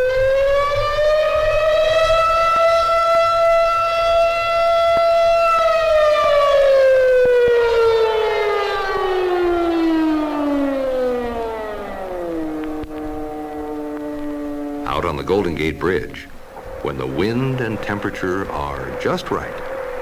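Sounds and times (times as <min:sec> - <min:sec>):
siren winding down: 0:00.0 - 0:20.0.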